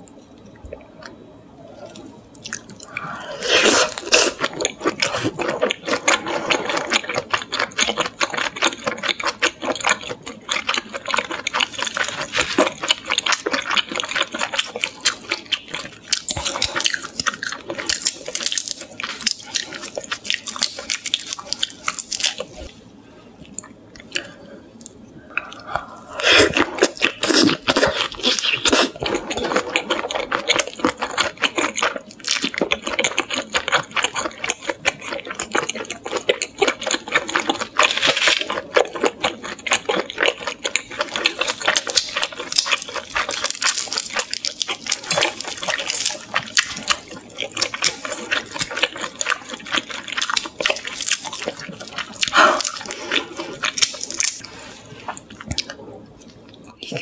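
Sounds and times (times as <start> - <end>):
close chewing and crunching: 1.9 - 22.8, 23.4 - 57.0.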